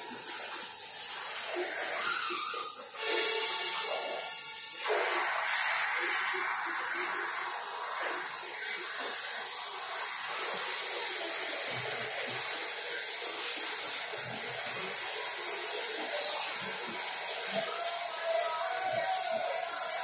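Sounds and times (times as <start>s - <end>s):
steady rushing air hiss: 0.0s - 20.0s.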